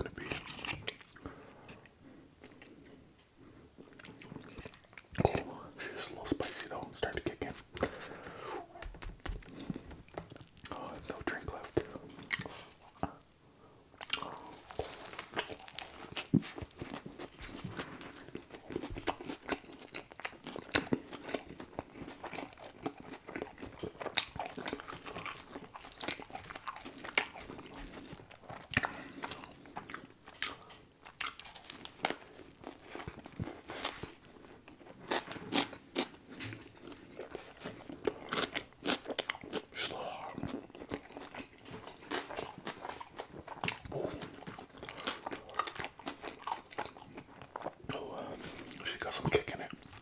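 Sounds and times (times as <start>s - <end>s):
chewing with crunching: 0.0s - 6.7s, 7.4s - 13.2s, 14.0s - 50.0s.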